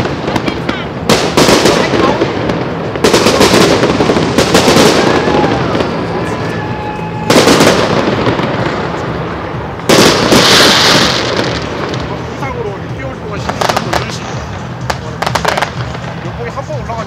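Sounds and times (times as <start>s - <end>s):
fireworks bursting with bangs: 0.0s - 17.0s
fireworks crackling: 0.0s - 17.0s.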